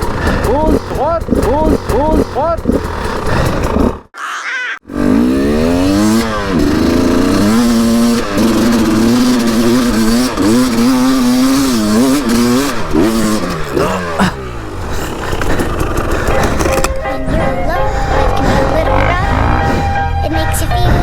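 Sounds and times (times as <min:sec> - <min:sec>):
motorcycle engine revving: 0:00.0 - 0:04.2, 0:04.8 - 0:21.0.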